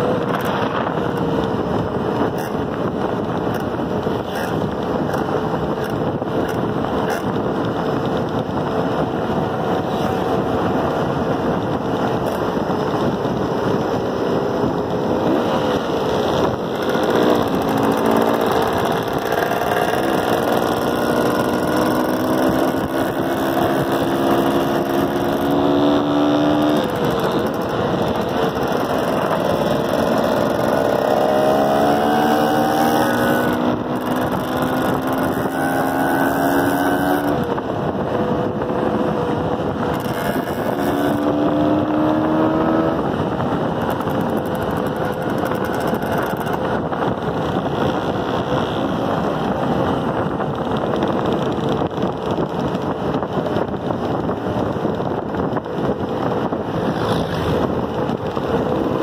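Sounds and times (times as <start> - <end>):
dirt bike engine accelerating: 3.5 - 59.0.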